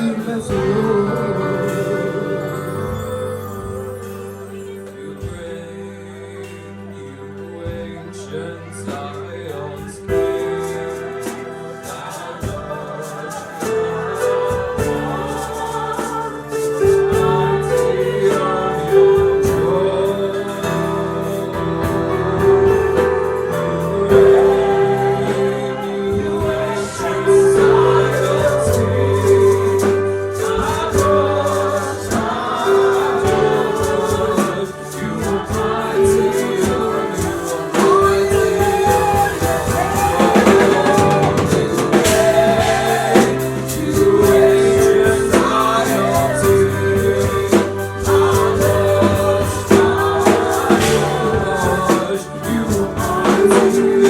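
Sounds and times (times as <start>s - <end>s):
choir singing gospel song: 0.0s - 54.0s
instrumental backing with steady beat: 0.0s - 54.0s.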